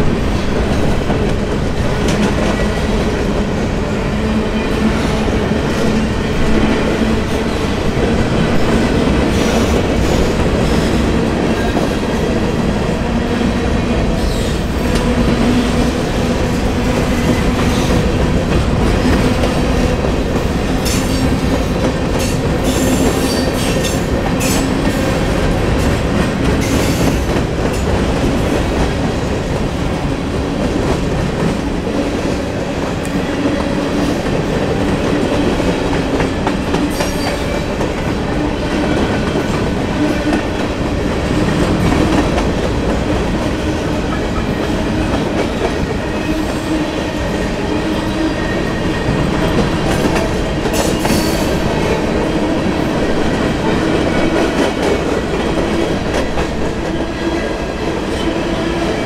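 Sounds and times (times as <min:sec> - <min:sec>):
sharp high train noises: 0:00.0 - 0:59.0
train wheels rumbling on rails: 0:00.0 - 0:59.0.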